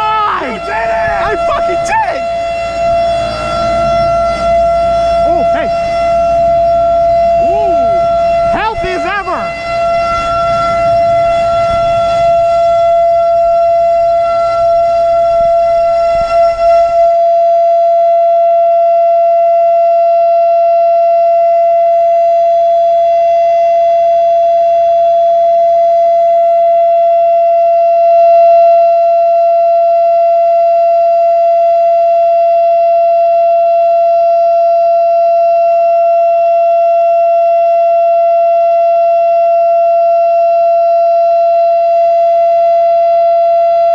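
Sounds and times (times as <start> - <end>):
warning siren steady tone: 0.0 - 43.9.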